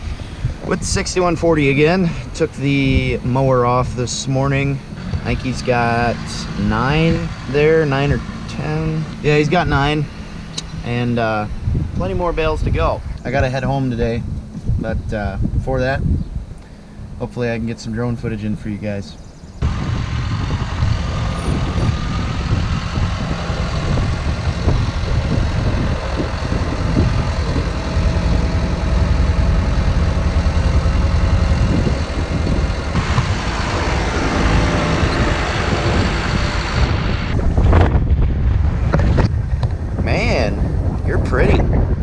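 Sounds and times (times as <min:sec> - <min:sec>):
tractor diesel engine running: 0:00.0 - 0:15.6, 0:19.6 - 0:41.4
wind buffeting microphone: 0:00.0 - 0:42.0.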